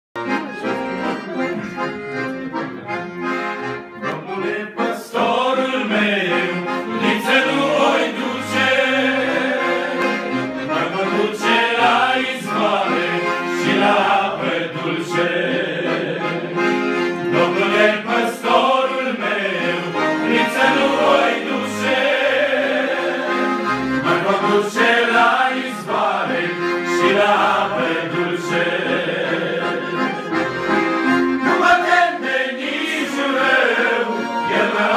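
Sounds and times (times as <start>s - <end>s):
accordion: 0.2s - 34.9s
men singing together: 4.4s - 16.6s, 17.3s - 30.0s, 31.4s - 34.9s.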